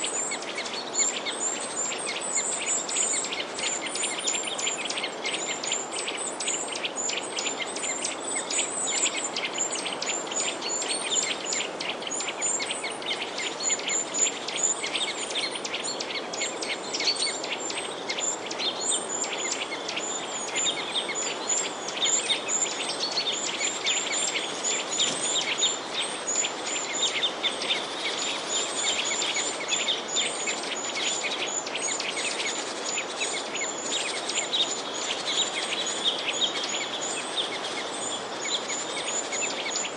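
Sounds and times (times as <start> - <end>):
small birds chirping: 0.0 - 39.9
steady background hiss: 0.0 - 39.9.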